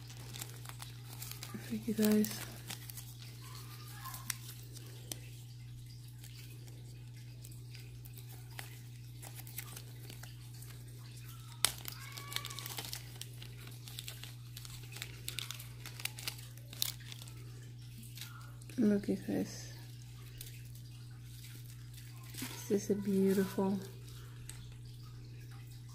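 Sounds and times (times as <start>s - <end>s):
plastic bag crinkling: 0.0s - 25.9s.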